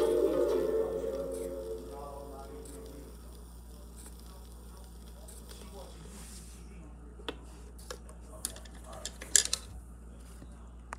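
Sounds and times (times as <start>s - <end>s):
record player hum: 0.0s - 10.9s.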